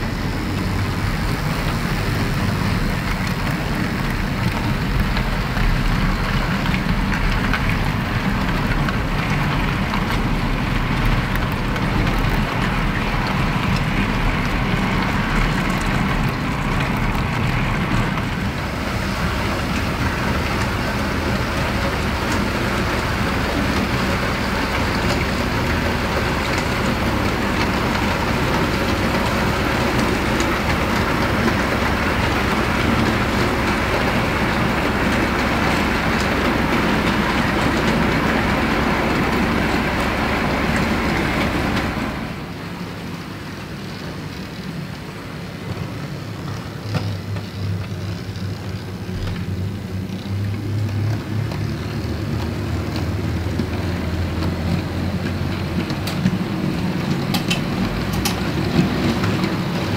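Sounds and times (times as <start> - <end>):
model train whirring and rolling: 0.0 - 59.9
wheels clicking over rail joints: 0.0 - 59.9.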